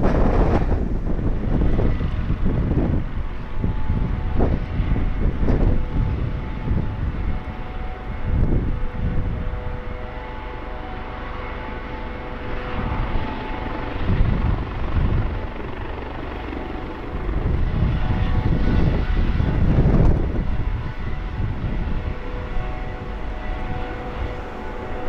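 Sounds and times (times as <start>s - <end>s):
helicopter rotor rumble: 0.0s - 25.0s
helicopter turbine whine: 0.0s - 25.0s.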